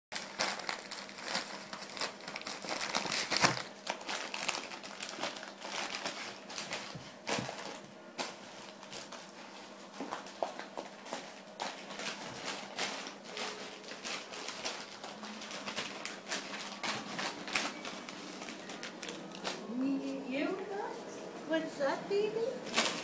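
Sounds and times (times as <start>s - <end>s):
wrapping paper crumpling: 0.1s - 21.0s, 22.6s - 23.0s.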